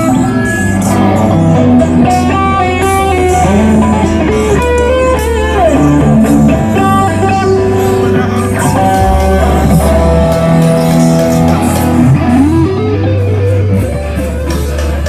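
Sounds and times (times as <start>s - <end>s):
bass line: 0.0s - 15.0s
drums: 0.0s - 15.0s
electric guitar melody: 0.0s - 15.0s.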